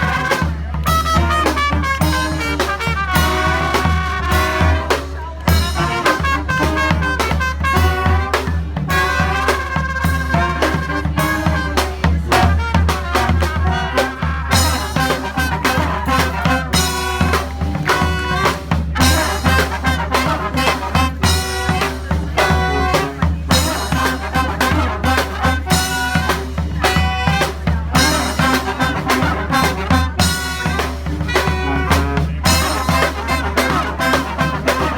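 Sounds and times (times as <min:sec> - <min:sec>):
drums steady beat: 0:00.0 - 0:34.9
horns playing tune: 0:00.0 - 0:34.9.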